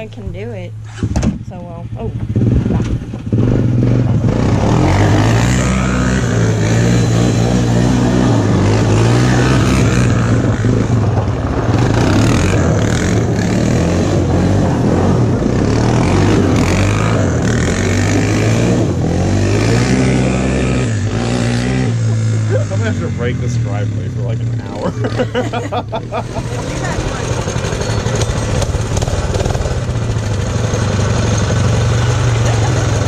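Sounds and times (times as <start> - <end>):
quad engine revving: 0.0 - 33.0.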